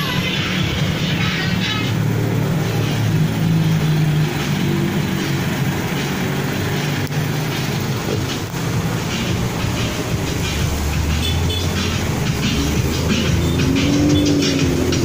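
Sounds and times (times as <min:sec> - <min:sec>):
bass-heavy music from car speakers: 0:00.0 - 0:15.0.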